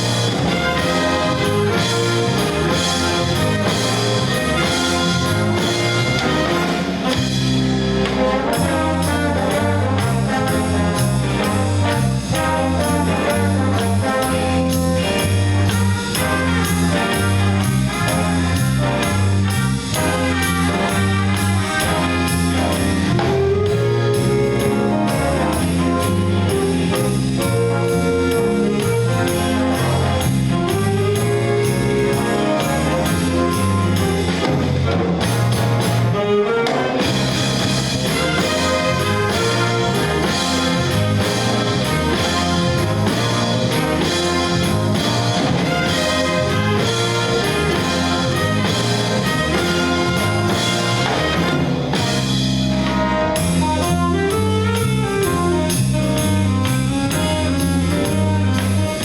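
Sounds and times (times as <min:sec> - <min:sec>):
brass horns melody: 0:00.0 - 0:59.0
jazz ensemble playing: 0:00.0 - 0:59.0.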